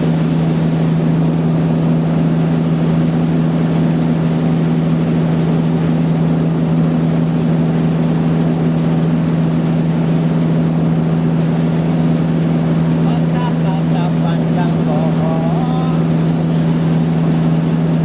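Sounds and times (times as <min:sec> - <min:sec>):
sawmill machinery humming: 0:00.0 - 0:18.0.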